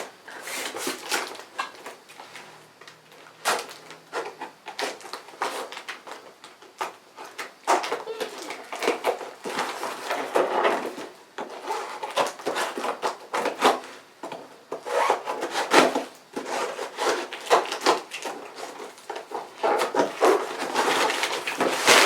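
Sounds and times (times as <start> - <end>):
bubble wrap rustling and crinkling: 0.0 - 13.9, 14.8 - 22.0.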